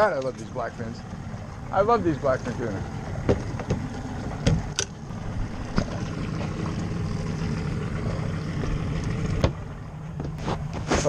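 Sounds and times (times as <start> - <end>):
outboard motor humming: 0.0 - 11.0.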